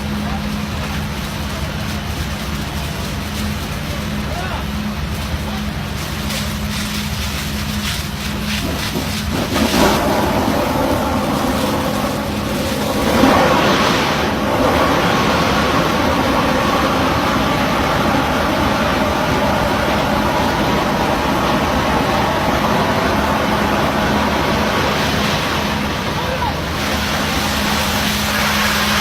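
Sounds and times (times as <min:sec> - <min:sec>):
drilling rig engine hum: 0:00.0 - 0:29.0
loud rush of noise: 0:00.0 - 0:29.0.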